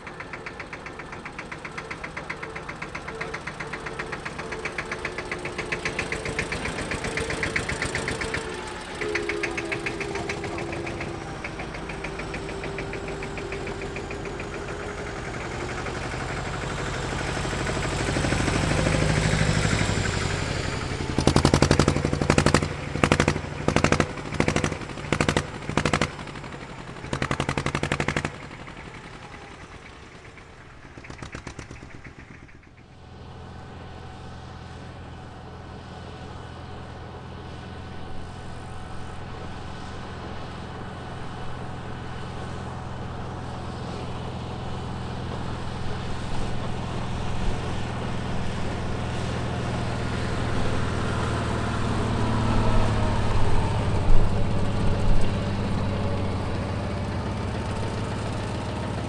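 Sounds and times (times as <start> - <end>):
tractor engine choppy bursts: 0.0 - 59.0
tractor engines driving past: 0.0 - 59.0.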